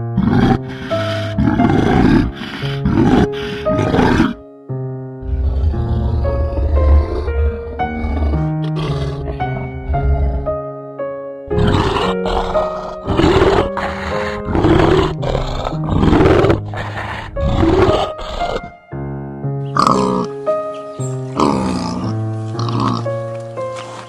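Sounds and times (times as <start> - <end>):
large animal roaring: 0.0 - 4.4, 5.2 - 10.7, 11.5 - 18.8, 19.8 - 20.3, 21.4 - 23.1
background music: 0.0 - 24.0.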